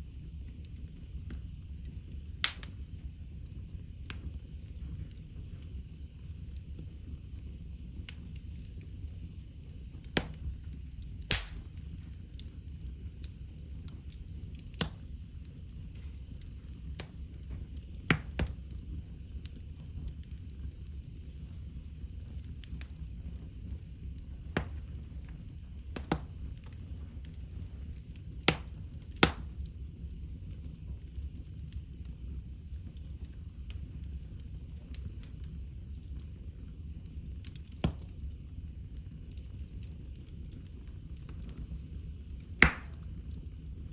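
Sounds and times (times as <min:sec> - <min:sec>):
fire crackling and popping: 0:00.0 - 0:43.9
fire rumbling and hissing: 0:00.0 - 0:43.9.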